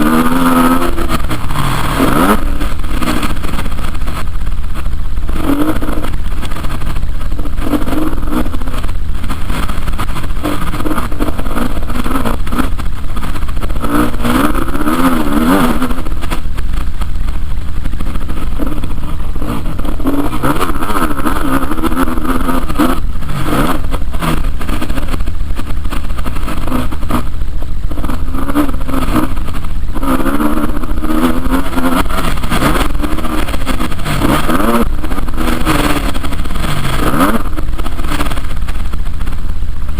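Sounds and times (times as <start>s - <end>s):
motorcycle engines revving: 0.0s - 39.9s
steady low rumble: 0.0s - 39.9s.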